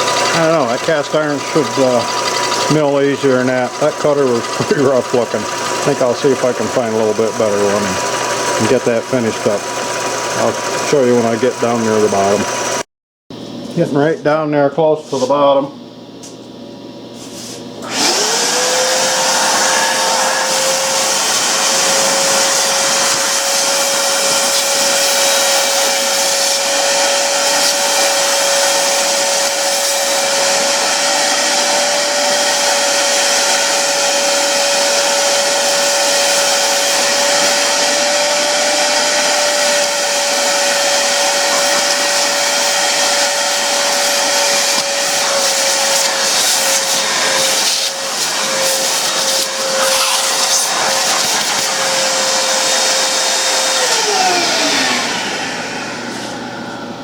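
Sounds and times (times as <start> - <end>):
hissing of metal milling: 0.0 - 11.8, 17.9 - 55.4
milling machine whine: 0.0 - 13.8, 15.7 - 57.0.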